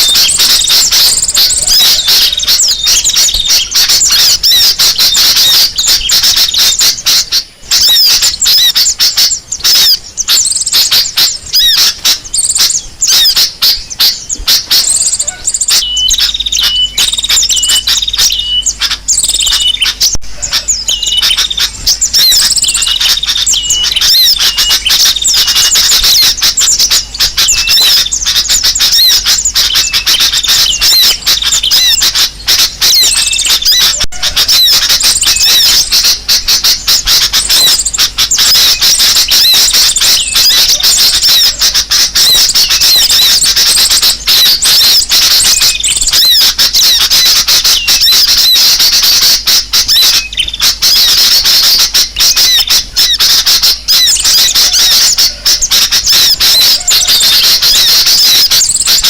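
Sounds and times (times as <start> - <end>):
flock of small birds chirping: 0.0 - 59.0.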